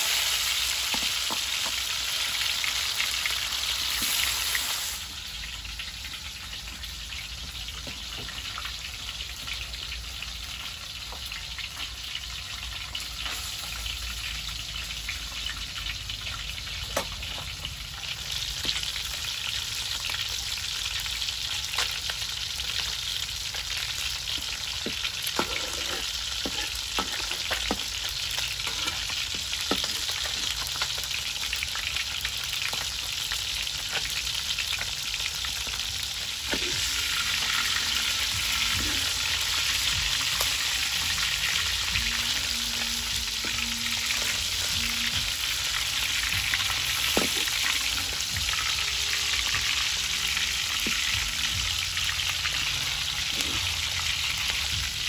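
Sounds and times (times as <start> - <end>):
fish sizzling in hot oil: 0.0 - 55.0
oil popping and crackling: 0.0 - 55.0.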